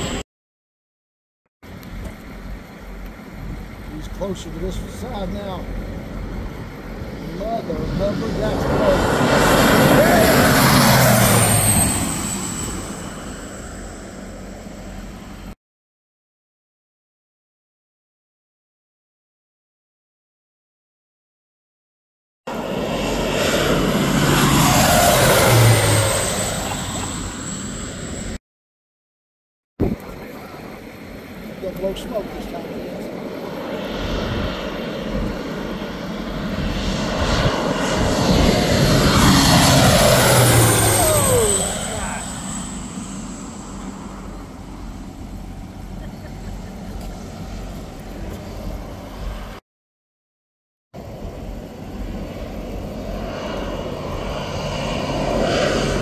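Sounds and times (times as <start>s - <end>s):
plane engine passing overhead: 0.0s - 0.2s, 1.6s - 15.6s, 22.5s - 28.4s, 29.8s - 49.6s, 51.0s - 56.0s.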